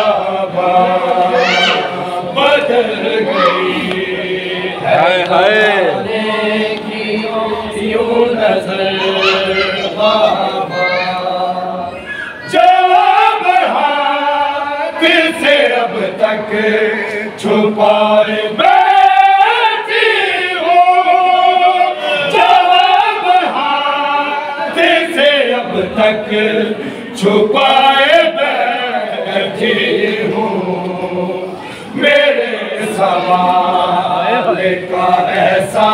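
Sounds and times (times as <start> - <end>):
men chanting a lament: 0.0 - 35.9.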